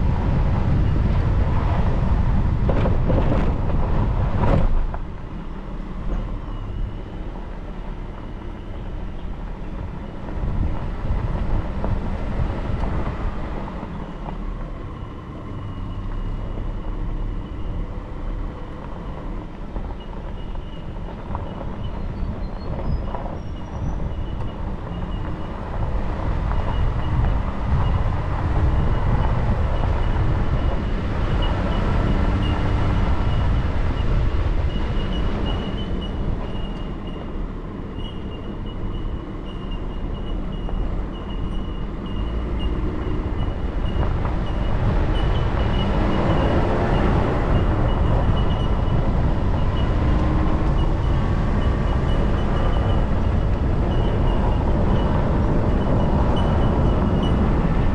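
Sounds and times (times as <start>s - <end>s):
tyres rumbling on dirt road: 0.0s - 57.9s
vehicle rattling: 0.0s - 57.9s.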